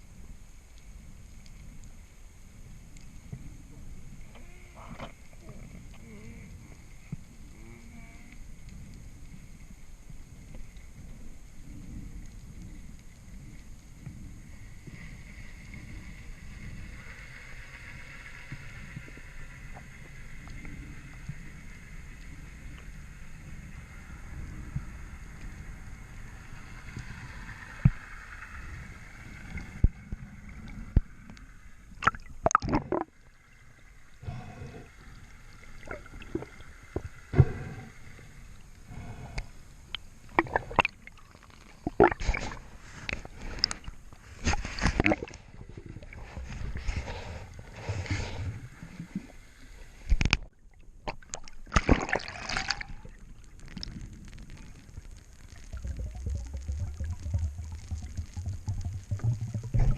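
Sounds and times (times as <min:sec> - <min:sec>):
water sloshing and gurgling: 0:02.7 - 0:59.9.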